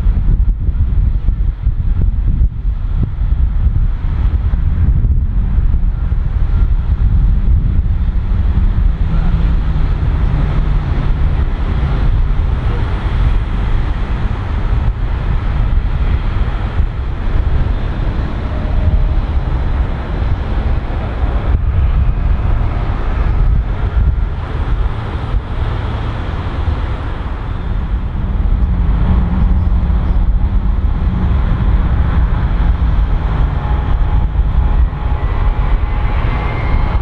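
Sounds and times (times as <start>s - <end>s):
jet engines rumbling: 0.0s - 37.0s
wind buffeting microphone: 0.0s - 37.0s.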